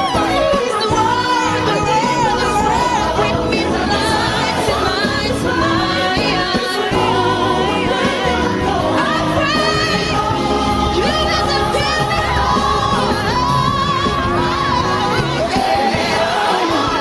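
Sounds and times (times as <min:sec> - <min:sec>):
backing choir: 0:00.0 - 0:17.0
bass: 0:00.0 - 0:17.0
piano: 0:00.0 - 0:17.0
solo voices singing: 0:00.0 - 0:17.0.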